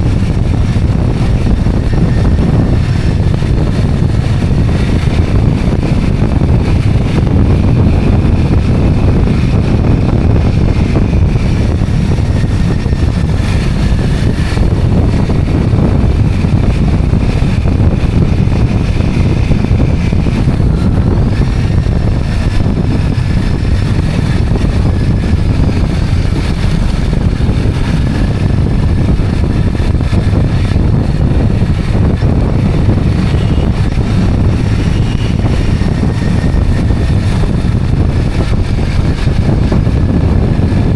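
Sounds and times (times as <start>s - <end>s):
road and engine noise: 0.0s - 40.9s
wind rush on microphone: 0.0s - 40.9s.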